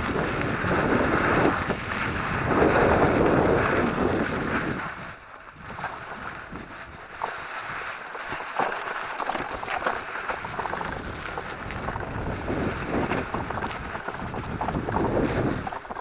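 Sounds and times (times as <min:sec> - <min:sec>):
wind rushing over microphone: 0:00.0 - 0:08.5, 0:09.2 - 0:16.0
bike tyres on sand and rock: 0:00.0 - 0:16.0.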